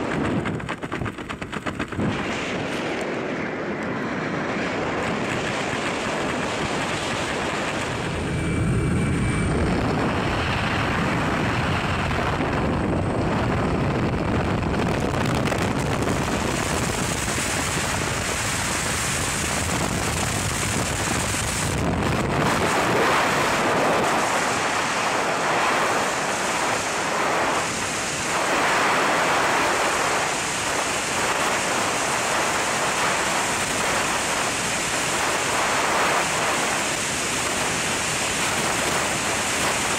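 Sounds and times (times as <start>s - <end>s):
airplane engine: 0.0s - 39.9s
rushing freefall wind: 0.0s - 39.9s.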